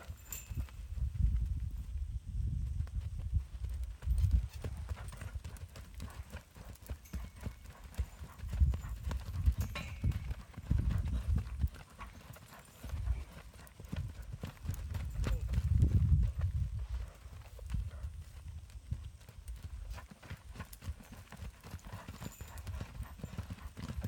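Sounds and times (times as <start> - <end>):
horse hoofbeats on sand: 0.0 - 1.8, 2.6 - 24.0.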